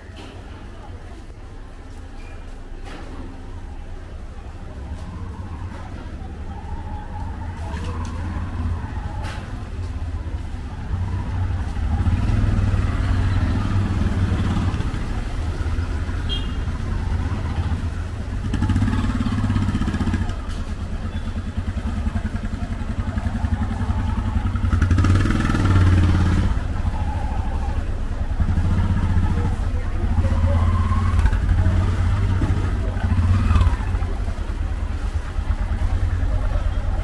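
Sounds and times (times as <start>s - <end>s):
auto-rickshaw engines: 0.0s - 37.0s
cars: 0.0s - 37.0s.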